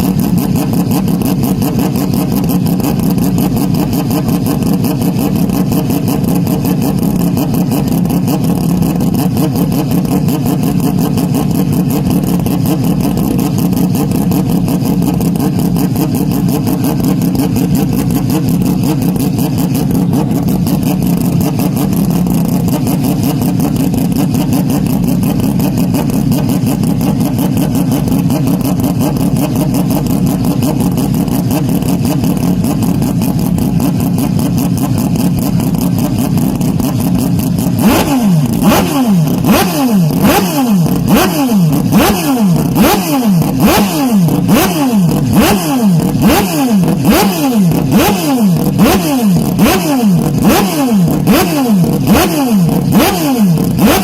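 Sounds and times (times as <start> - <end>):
loud race car engine revving: 0.0 - 54.0.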